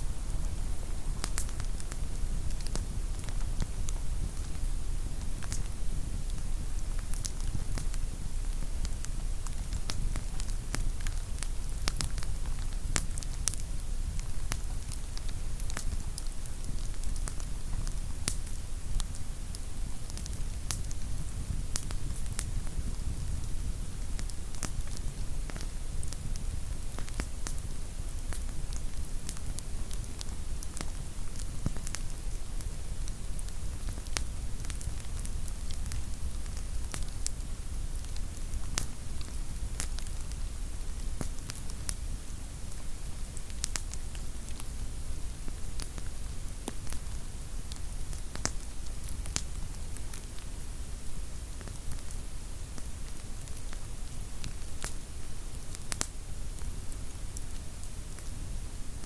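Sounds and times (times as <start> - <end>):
fire low rumble: 0.0 - 59.0
campfire crackling and popping: 0.3 - 59.0.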